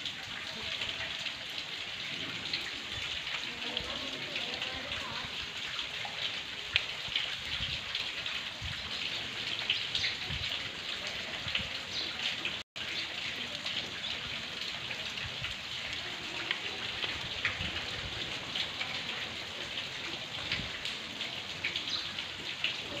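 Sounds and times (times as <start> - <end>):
steady rain on wet ground: 0.0 - 23.0.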